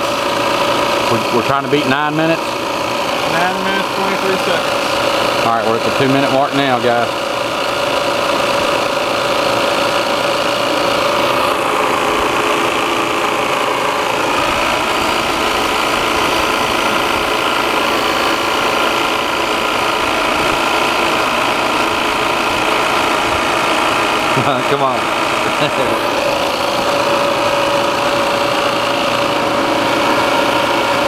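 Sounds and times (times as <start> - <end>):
compressor and fan running: 0.0 - 31.0.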